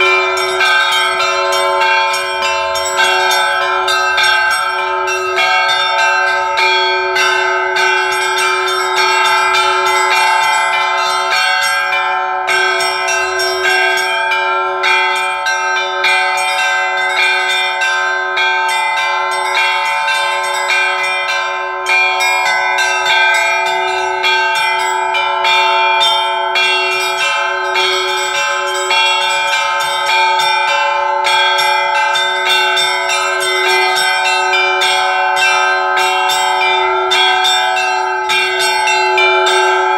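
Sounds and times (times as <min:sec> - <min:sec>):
large bells ringing: 0:00.0 - 0:39.9
small church bells struck quickly: 0:00.0 - 0:39.9.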